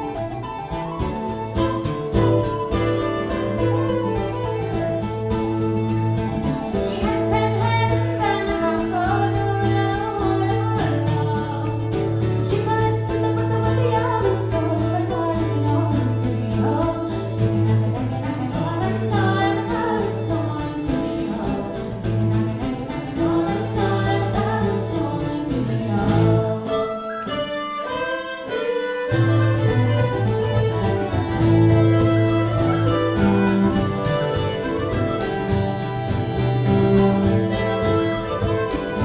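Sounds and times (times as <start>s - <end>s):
folk melody: 0.0s - 39.0s
plucked strings: 0.0s - 39.0s.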